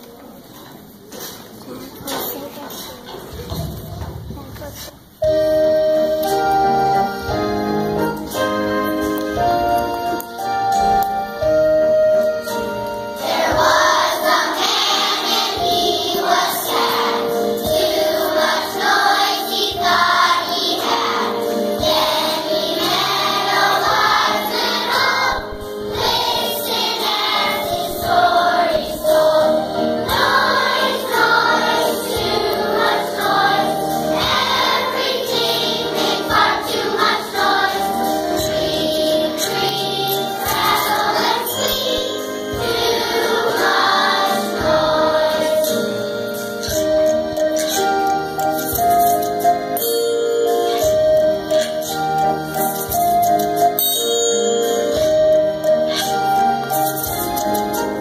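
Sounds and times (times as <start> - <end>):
children's choir singing: 5.3 - 53.8, 54.6 - 58.0.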